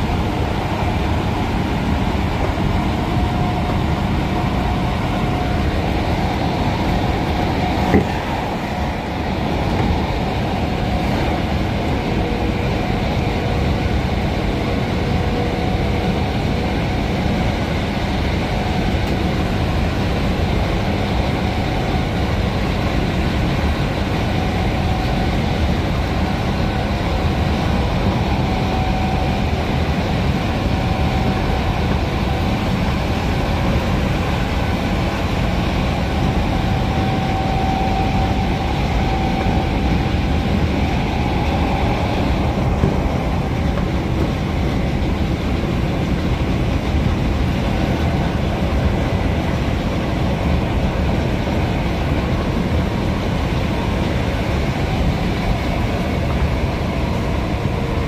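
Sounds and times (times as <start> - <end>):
traction motor whine: 0.0 - 22.1, 23.6 - 49.2
train wheels rumbling on rail: 0.0 - 58.0.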